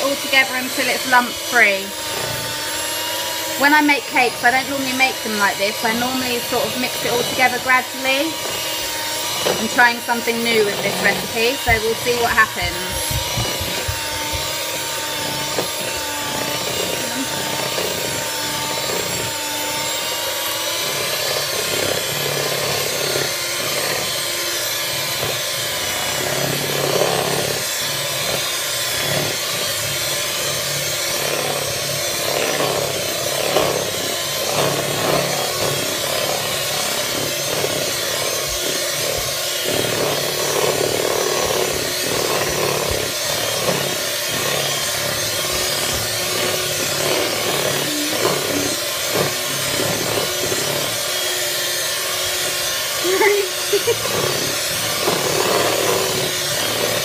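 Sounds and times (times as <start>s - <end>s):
electric hand mixer whirring: 0.0s - 57.0s
uneven grinding: 0.0s - 57.0s.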